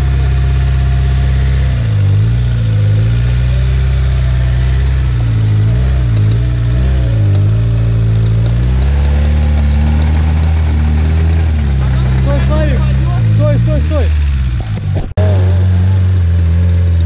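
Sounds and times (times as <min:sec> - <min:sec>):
vehicle engine revving under load: 0:00.0 - 0:17.0.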